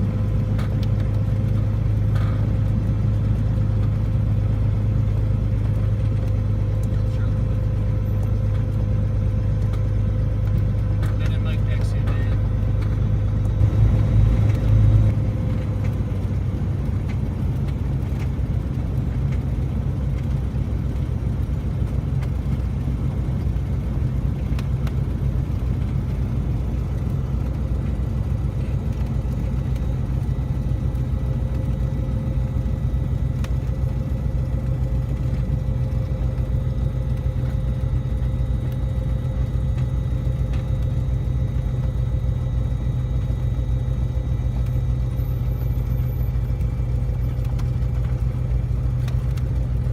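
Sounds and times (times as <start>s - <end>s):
piston aircraft engine running: 0.0s - 49.9s.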